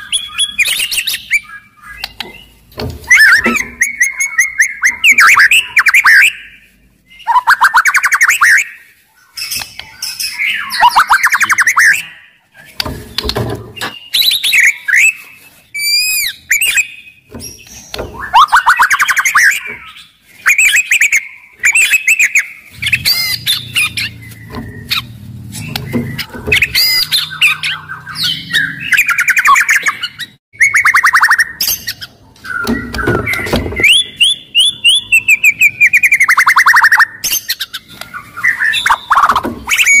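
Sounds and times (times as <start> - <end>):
bird singing chattering trills: 0.0 - 40.0.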